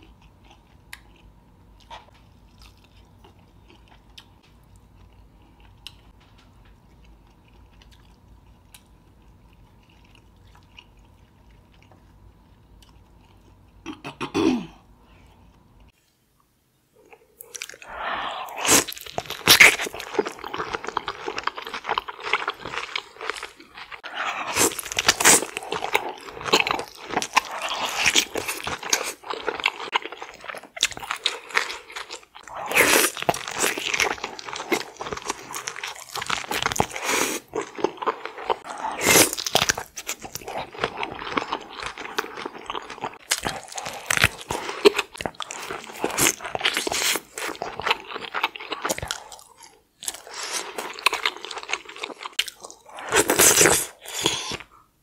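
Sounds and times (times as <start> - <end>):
person chewing food: 0.0 - 13.9, 17.0 - 54.9.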